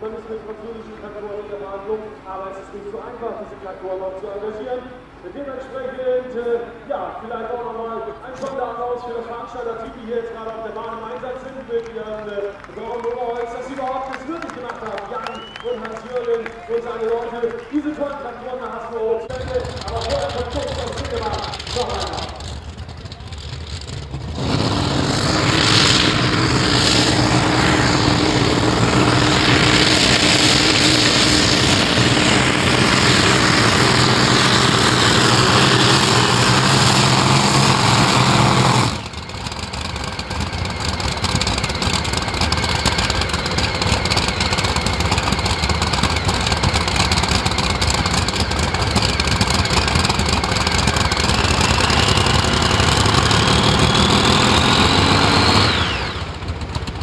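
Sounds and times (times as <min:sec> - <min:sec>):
pulling tractor engines: 0:08.1 - 0:18.6, 0:19.2 - 0:57.0.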